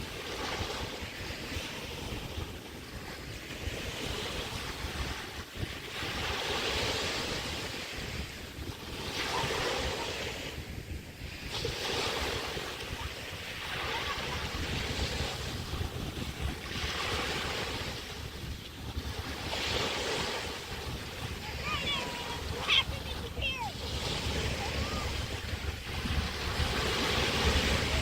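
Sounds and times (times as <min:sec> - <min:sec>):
waves breaking on a beach: 0:00.0 - 0:28.0
wind rumbling on microphone: 0:00.0 - 0:28.0.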